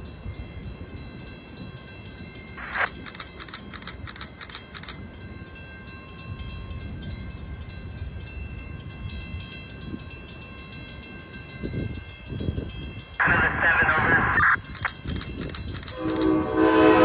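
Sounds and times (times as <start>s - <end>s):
crossing bell ringing: 0.0s - 17.0s
train rumble: 0.0s - 17.0s.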